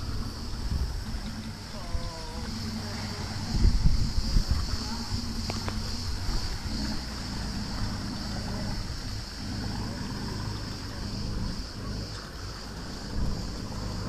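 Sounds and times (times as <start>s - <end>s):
boat engine humming: 0.0s - 14.0s
high-pitched hiss: 0.0s - 14.0s
water noise: 0.0s - 14.0s
wind noise: 0.0s - 14.0s.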